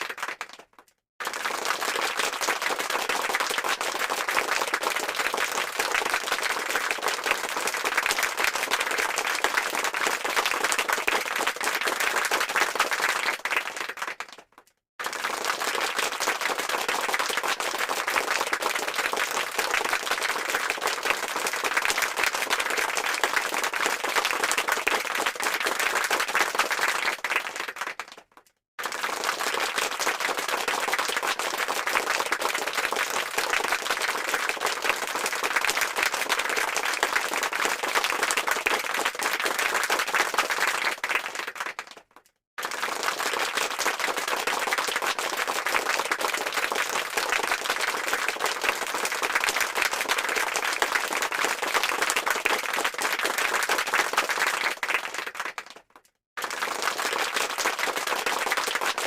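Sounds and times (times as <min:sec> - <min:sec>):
crowd clapping: 0:00.0 - 0:59.0.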